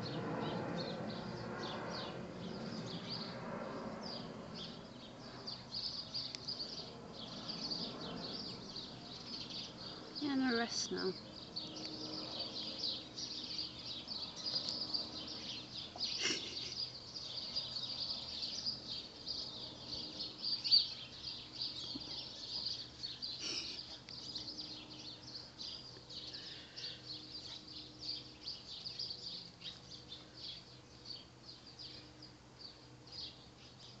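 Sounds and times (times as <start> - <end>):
garden birds singing and chirping: 0.0 - 34.0.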